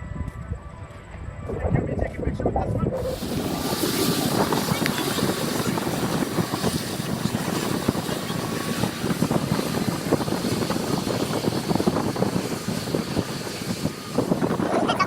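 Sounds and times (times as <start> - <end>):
aircraft engine rumble: 2.5 - 15.0.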